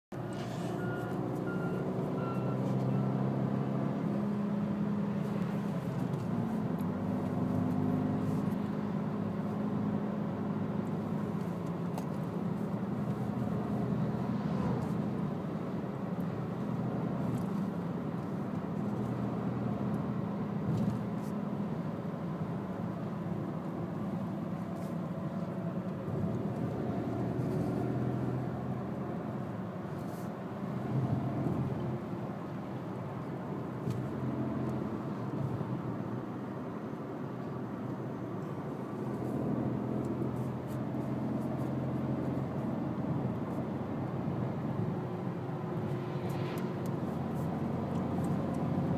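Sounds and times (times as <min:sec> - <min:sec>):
car engine inside cabin: 0:00.1 - 0:48.9
tyre road noise: 0:00.1 - 0:48.9.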